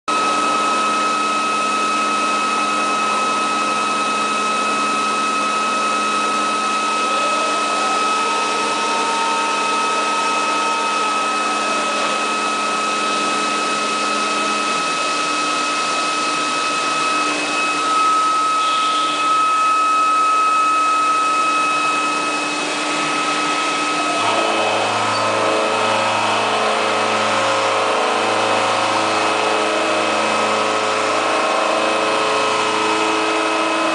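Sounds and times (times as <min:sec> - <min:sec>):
milling machine whine: 0:00.1 - 0:33.9
pulsing drone: 0:02.7 - 0:33.9.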